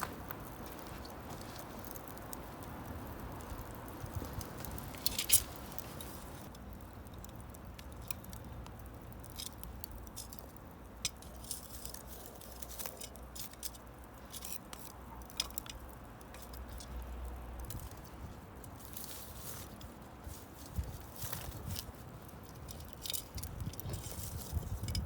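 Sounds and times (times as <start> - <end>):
small crackles and clicks: 0.0 - 25.0.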